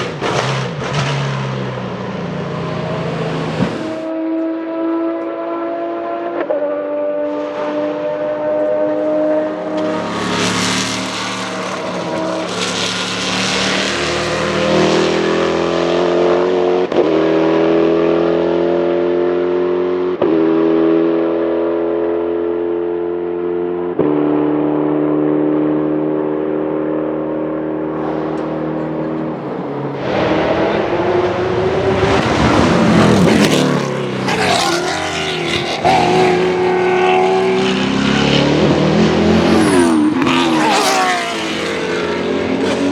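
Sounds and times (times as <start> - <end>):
race car engine at speed: 0.0 - 42.9.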